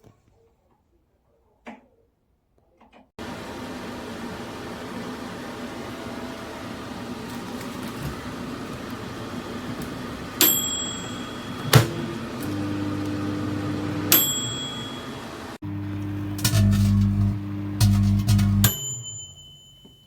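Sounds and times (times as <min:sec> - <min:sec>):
microwave oven humming: 0:03.2 - 0:19.8.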